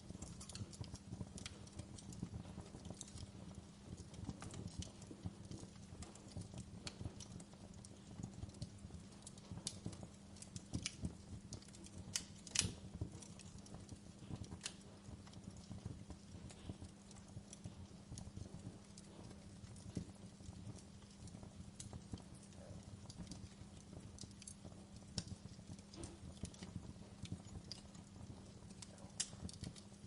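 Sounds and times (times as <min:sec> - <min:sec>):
log fire crackling: 0:00.0 - 0:30.0
steady low hum: 0:00.0 - 0:30.0.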